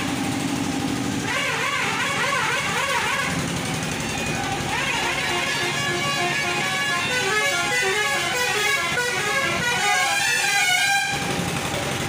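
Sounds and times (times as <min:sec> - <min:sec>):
musical vehicle horn: 0:01.2 - 0:11.6.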